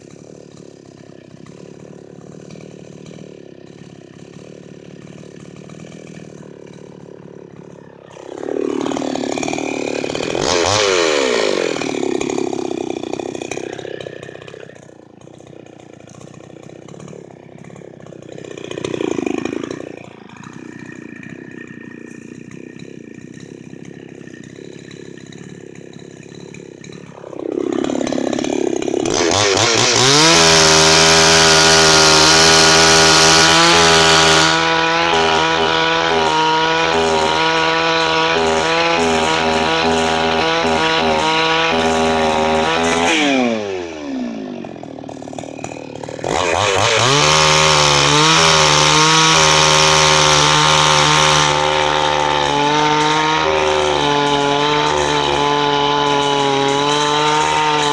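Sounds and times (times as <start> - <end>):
chainsaw idling and revving: 0.0 - 57.9.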